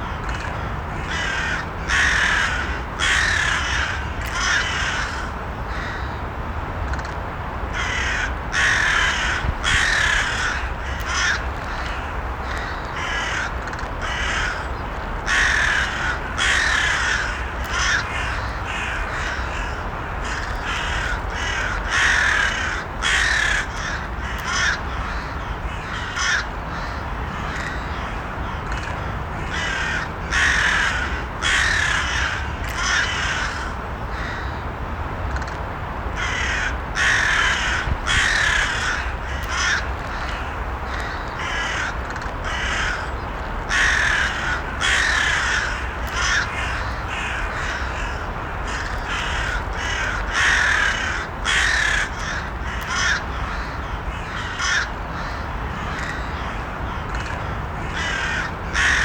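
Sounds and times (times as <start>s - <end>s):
crows cawing: 0.0s - 6.2s, 7.7s - 34.6s, 36.2s - 59.0s
low background noise: 0.0s - 59.0s.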